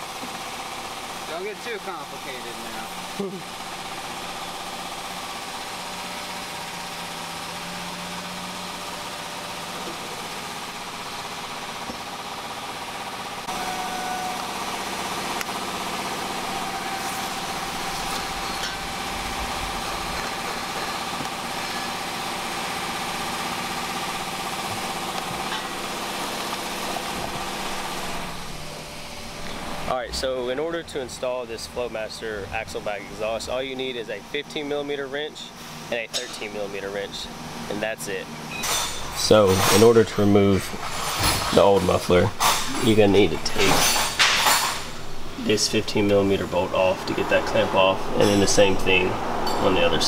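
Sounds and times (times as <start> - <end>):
machine humming: 0.0 - 35.9, 36.6 - 50.0.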